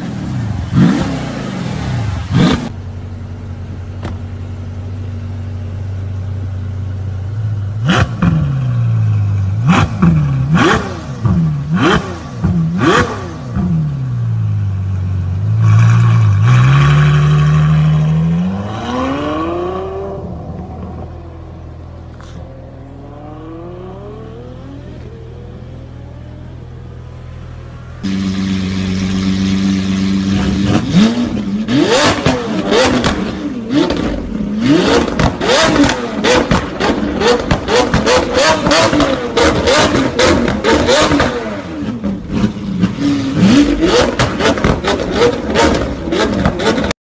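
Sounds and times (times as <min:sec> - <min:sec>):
other car revving: 0:00.0 - 0:02.9, 0:07.2 - 0:47.0
car pulling away: 0:00.0 - 0:46.9
car engine idling and revving: 0:00.0 - 0:47.0.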